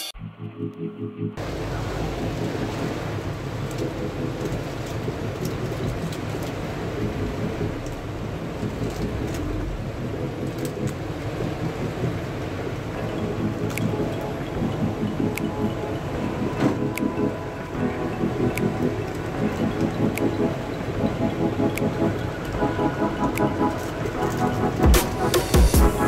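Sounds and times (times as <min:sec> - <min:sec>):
torrential rain: 0:01.4 - 0:26.0.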